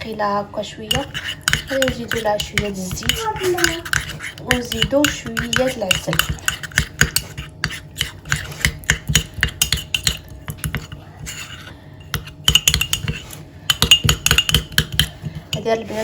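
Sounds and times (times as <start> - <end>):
cutlery clicking and scraping bowl: 0.9 - 15.7.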